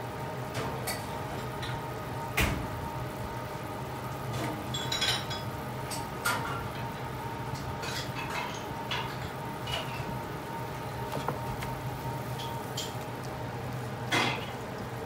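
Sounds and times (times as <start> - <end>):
coconut frying in oil: 0.0 - 15.0.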